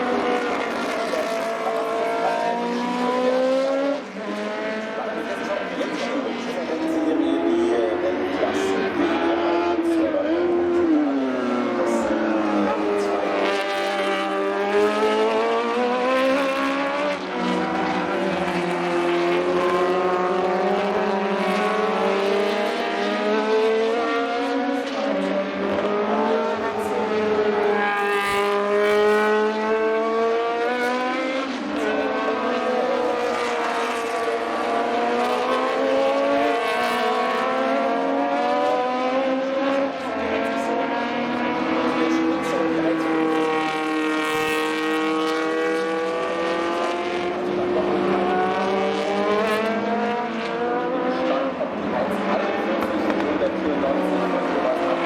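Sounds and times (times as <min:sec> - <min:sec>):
racing car engines revving: 0:00.0 - 0:55.0.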